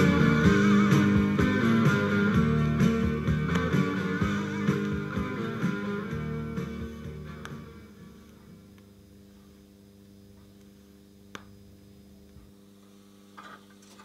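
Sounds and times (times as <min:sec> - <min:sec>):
jukebox electrical hum: 0:00.0 - 0:14.0.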